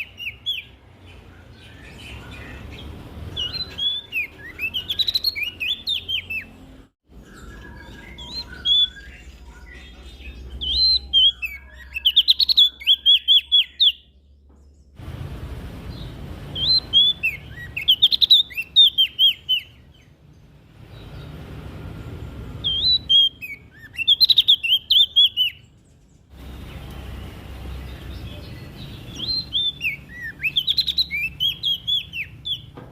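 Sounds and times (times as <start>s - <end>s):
bird singing high sliding chirps: 0.0s - 14.4s, 15.9s - 32.8s.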